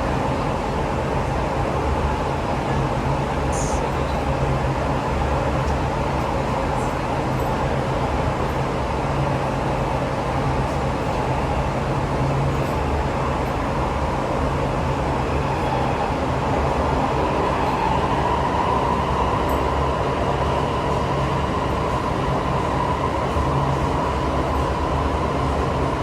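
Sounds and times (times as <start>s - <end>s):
metro train interior hum: 0.0s - 26.0s.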